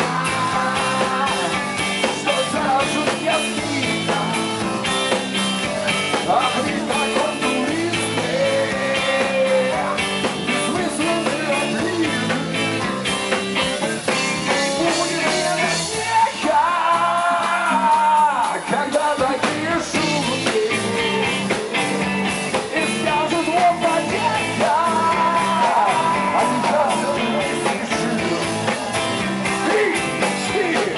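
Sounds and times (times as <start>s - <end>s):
rock band playing live: 0.0s - 30.9s.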